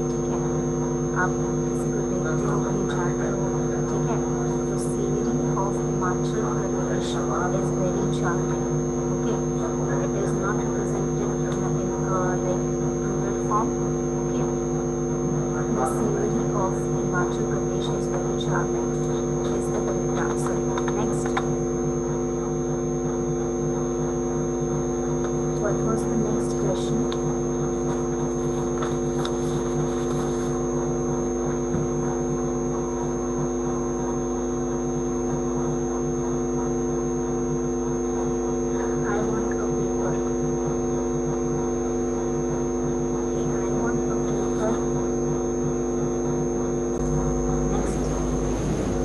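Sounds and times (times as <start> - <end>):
electrical mains hum: 0.0 - 49.0.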